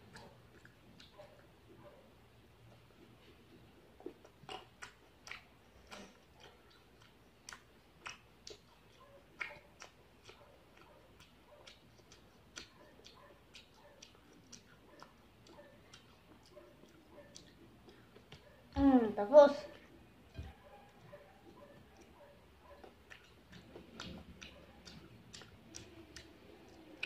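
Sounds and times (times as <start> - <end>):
person chewing grapes: 0.0 - 1.6, 2.6 - 18.8, 19.6 - 27.0.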